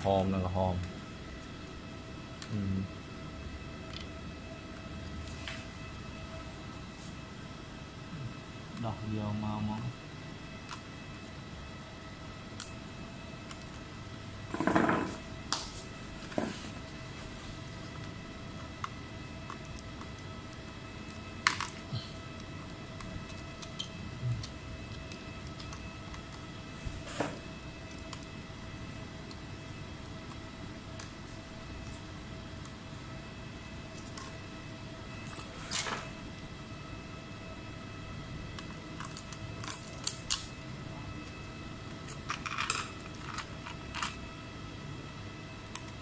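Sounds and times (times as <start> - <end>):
steady electrical hum: 0.0 - 46.0.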